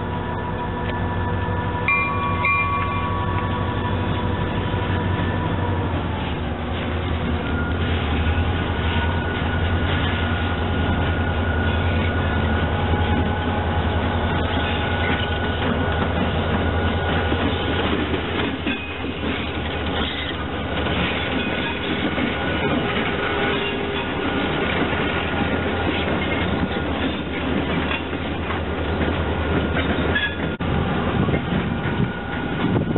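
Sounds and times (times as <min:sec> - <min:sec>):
diesel locomotives rumbling past: 0:00.0 - 0:32.9.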